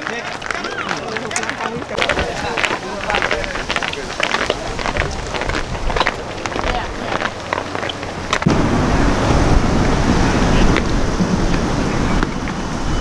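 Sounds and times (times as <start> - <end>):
faint outdoor voices: 0.0 - 13.0
wind buffeting microphone: 0.0 - 13.0.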